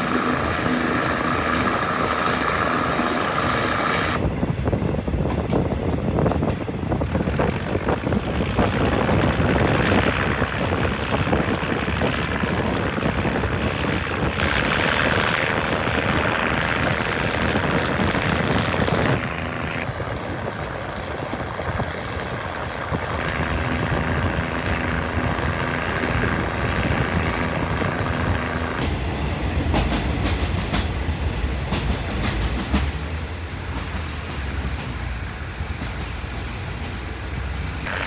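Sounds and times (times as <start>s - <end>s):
diesel railcar engine drone: 0.0s - 38.0s
wheels rattling on rail: 0.0s - 38.0s.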